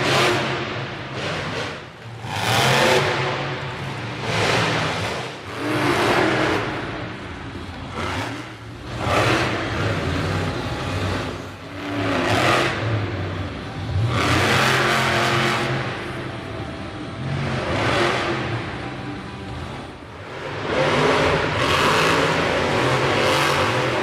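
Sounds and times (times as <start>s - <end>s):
low engine drone: 0.0s - 24.0s
truck engine revving: 0.0s - 24.0s.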